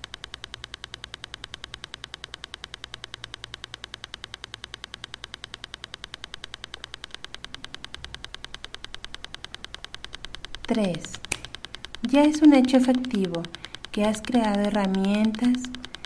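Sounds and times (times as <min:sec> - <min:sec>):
faint low hum: 0:00.0 - 0:16.0
rapid ticking clicks: 0:00.0 - 0:16.0.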